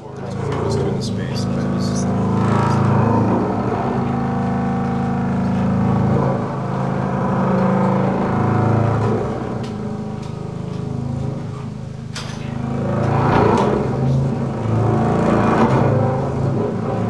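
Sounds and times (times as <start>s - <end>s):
bowed low string drone: 0.0s - 17.0s.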